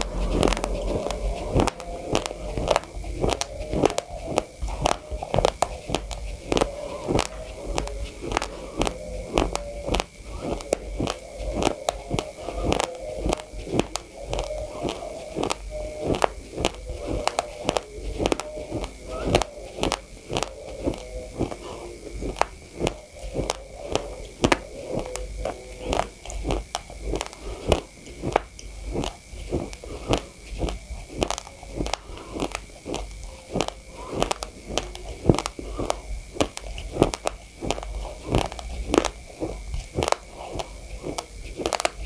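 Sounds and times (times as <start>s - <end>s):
chewing crunchy rice grains: 0.0s - 42.0s.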